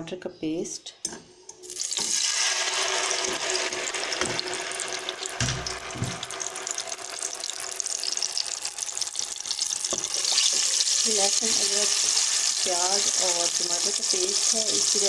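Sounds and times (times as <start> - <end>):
paste sizzling in hot oil: 1.6 - 15.0.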